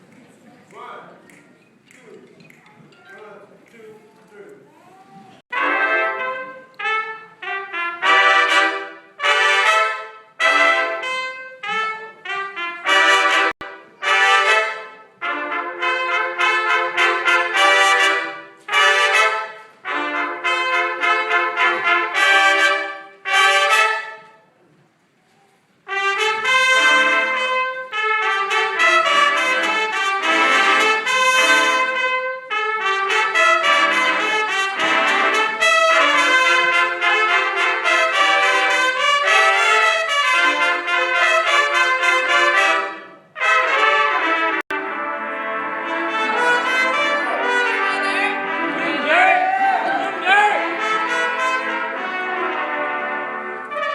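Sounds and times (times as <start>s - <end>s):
brass band playing chords: 5.5s - 24.5s, 25.8s - 53.9s.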